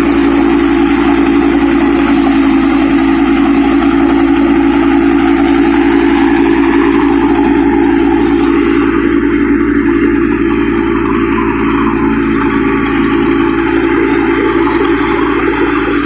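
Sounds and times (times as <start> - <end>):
harvester mechanical hum: 0.0 - 16.0.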